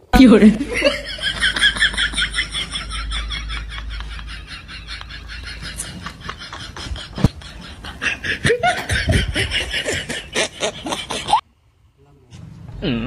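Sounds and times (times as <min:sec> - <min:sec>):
man snickering: 0:00.7 - 0:11.4.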